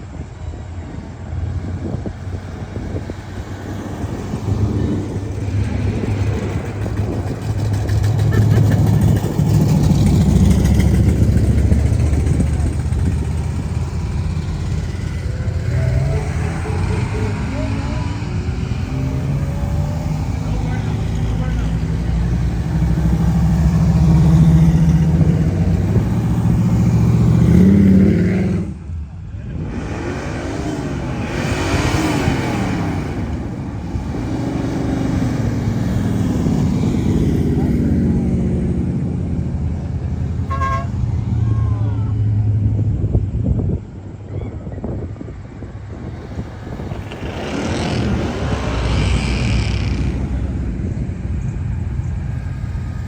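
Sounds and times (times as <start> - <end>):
car engine rumbling: 0.0 - 53.0.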